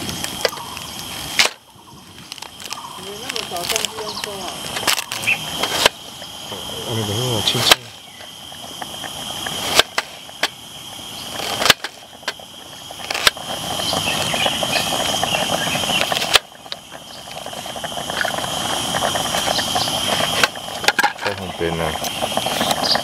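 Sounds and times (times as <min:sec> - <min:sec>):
steady high hiss: 0:00.0 - 0:23.0.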